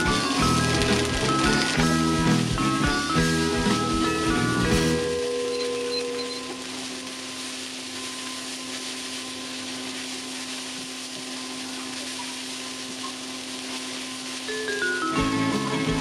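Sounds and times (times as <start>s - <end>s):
rice frying hiss: 0.0s - 16.0s.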